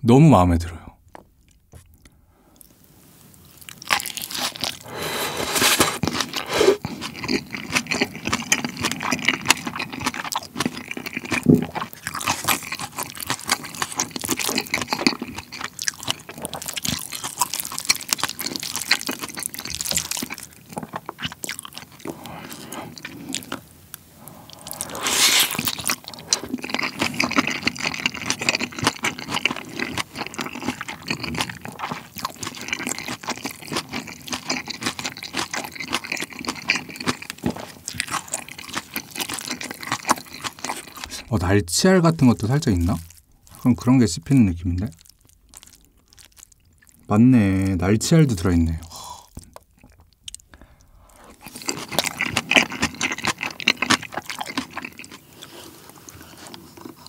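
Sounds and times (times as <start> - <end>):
close chewing and crunching: 1.0 - 57.0.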